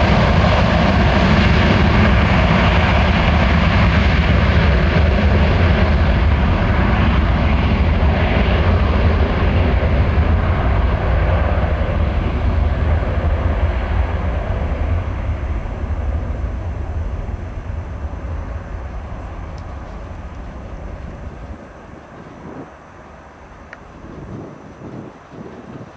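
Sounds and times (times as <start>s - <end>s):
jet airliner engines roaring: 0.0s - 25.9s.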